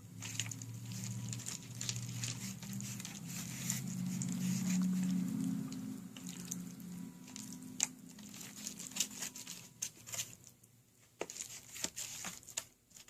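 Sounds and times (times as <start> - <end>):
low steady hum: 0.0 - 13.0
slime squishing by hand: 0.0 - 13.0.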